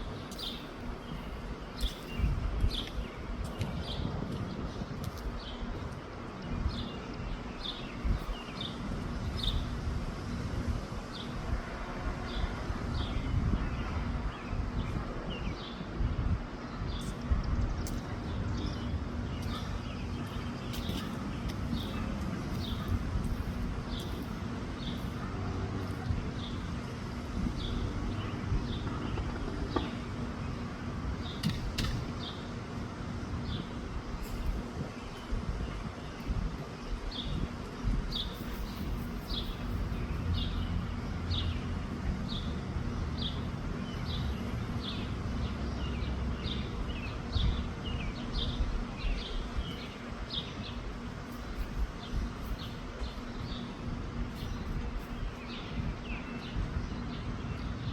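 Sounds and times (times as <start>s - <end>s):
small birds chirping: 0.0s - 9.8s, 12.3s - 57.9s
wind buffeting microphone: 0.0s - 57.9s.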